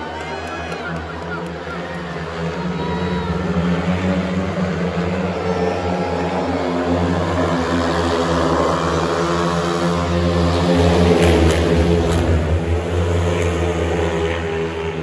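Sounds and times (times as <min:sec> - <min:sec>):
motorcycles racing at high revs: 0:00.0 - 0:15.0.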